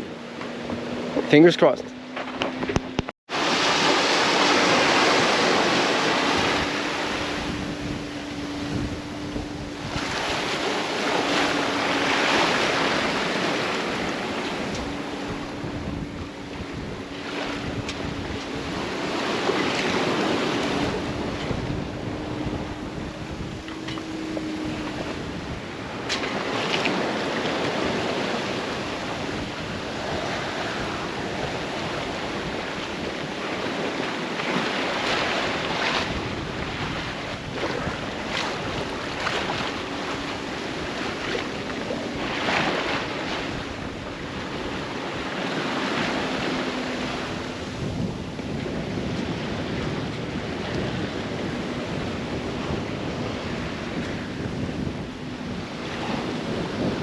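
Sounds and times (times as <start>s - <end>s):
sea splashing past a boat hull: 0.0s - 57.0s
wind buffeting microphone: 0.0s - 57.0s.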